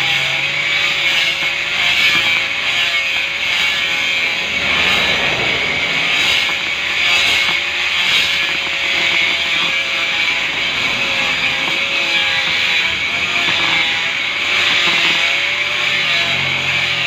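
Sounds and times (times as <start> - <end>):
power tool grinding stone: 0.0 - 17.0.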